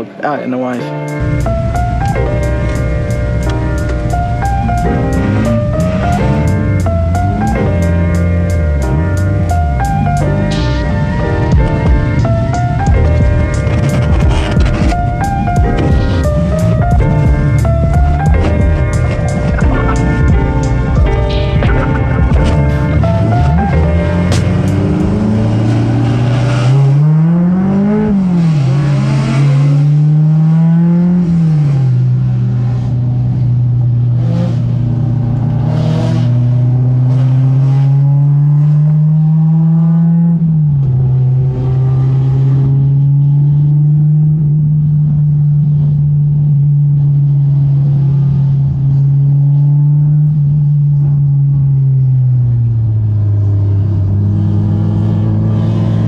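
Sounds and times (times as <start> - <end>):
car engine running hard: 1.1 - 56.0.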